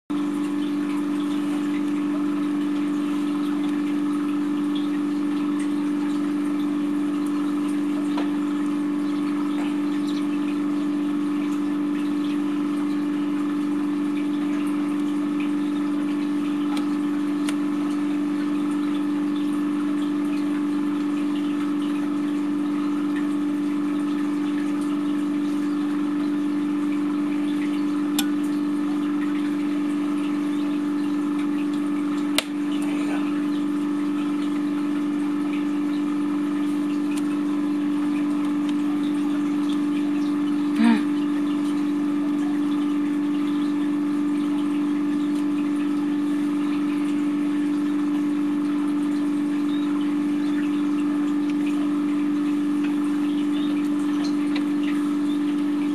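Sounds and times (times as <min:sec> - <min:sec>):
incubator fan humming: 0:00.1 - 0:55.9.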